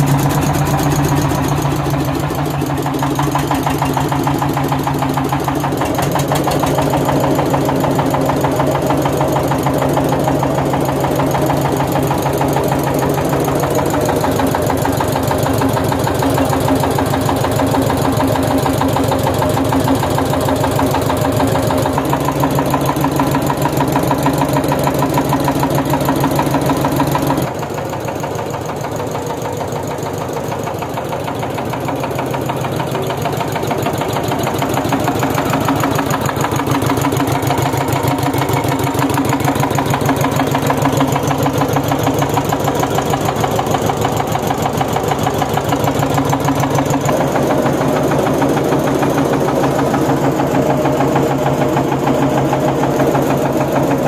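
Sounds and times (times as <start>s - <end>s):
diesel engine running steadily: 0.0s - 54.0s.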